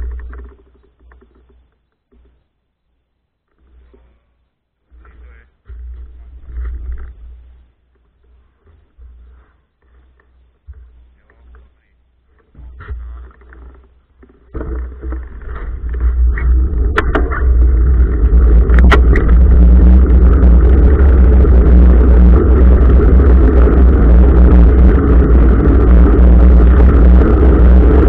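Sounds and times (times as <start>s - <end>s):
vehicle running low rumble: 0.0s - 28.0s.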